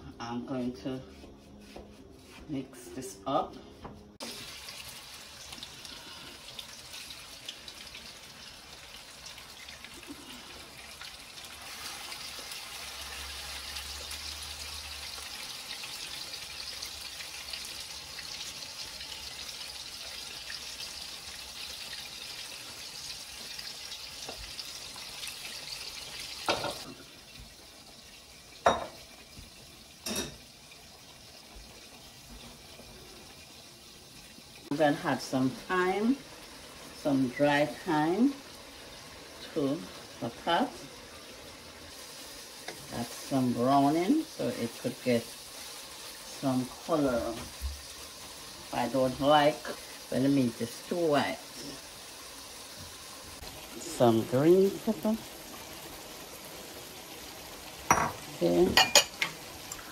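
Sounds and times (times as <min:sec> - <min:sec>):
meat sizzling in a frying pan: 0:04.1 - 0:59.9.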